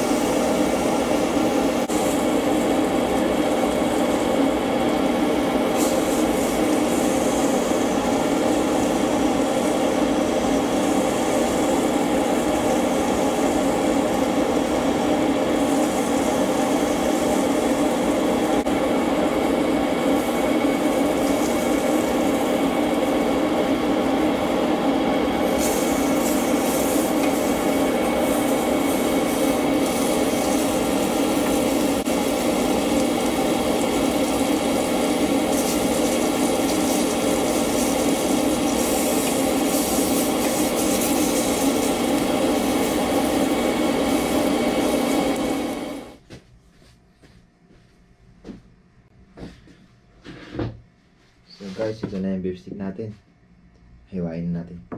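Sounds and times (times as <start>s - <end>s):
steak frying in a pan: 0.0s - 46.0s
loud steady hum: 0.0s - 46.2s.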